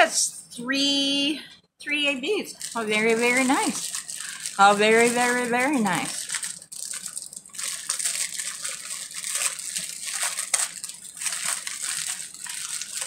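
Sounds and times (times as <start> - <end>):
plastic bag crinkling: 2.5 - 13.0.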